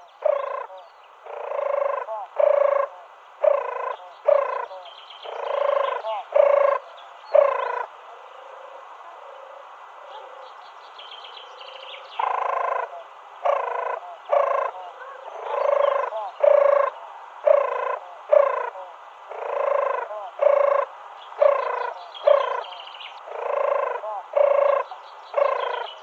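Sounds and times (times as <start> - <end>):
small birds chirping: 0.0 - 7.9, 10.1 - 26.0
dove cooing: 0.0 - 10.6, 11.4 - 26.0.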